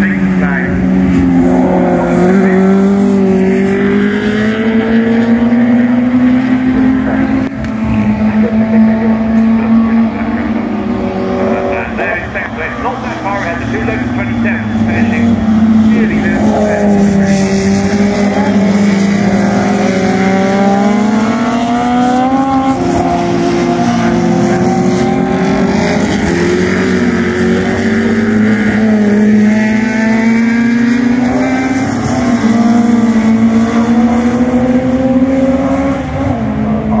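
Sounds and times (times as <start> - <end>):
racing car engines droning: 0.0 - 37.0.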